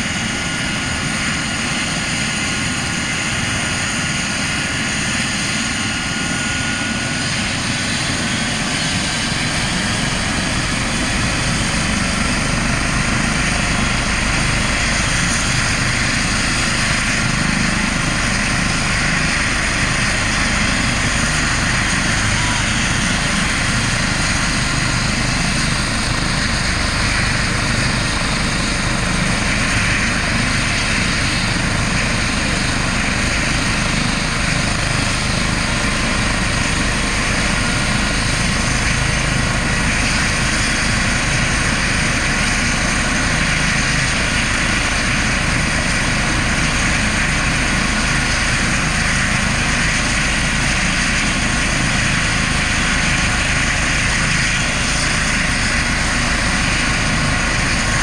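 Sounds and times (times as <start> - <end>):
helicopter rotor turning: 0.0 - 58.0
helicopter turbine whine: 0.0 - 58.0.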